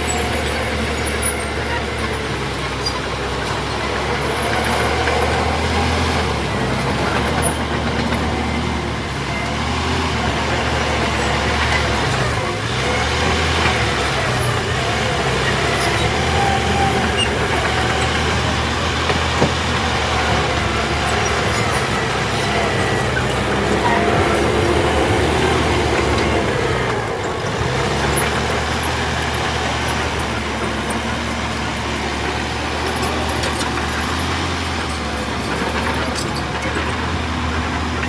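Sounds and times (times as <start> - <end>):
diesel machinery engine drone: 0.0 - 38.0.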